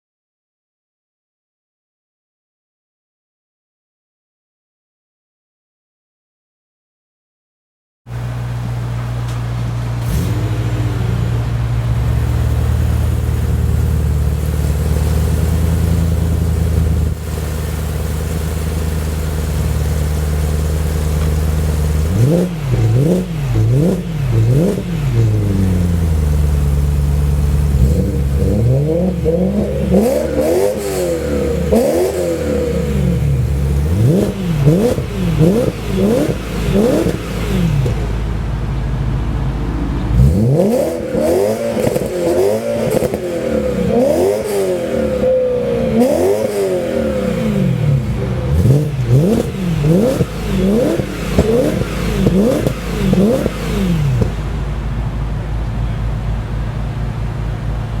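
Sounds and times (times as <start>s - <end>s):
car engine revving from idle: 8.1s - 58.0s.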